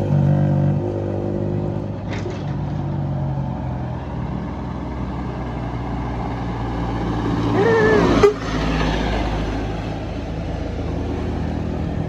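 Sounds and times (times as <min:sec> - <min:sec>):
bus engine running: 0:01.7 - 0:12.0.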